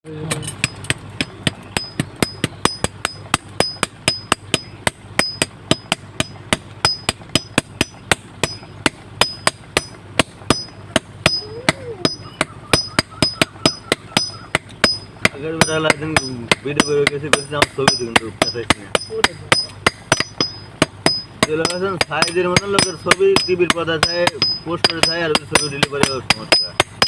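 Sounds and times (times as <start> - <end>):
hammer striking metal on anvil: 0.3 - 27.0.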